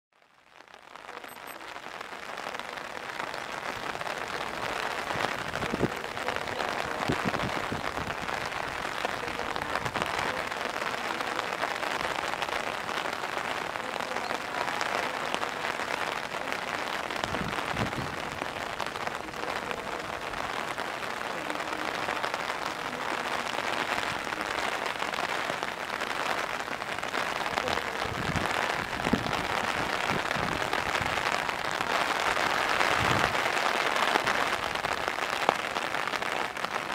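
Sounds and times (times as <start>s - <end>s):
heavy rain pouring: 0.2s - 36.9s.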